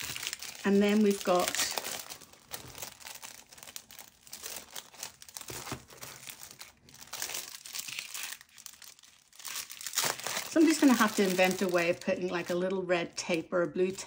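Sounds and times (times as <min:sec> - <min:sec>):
cellophane bag crinkling: 0:00.0 - 0:14.0.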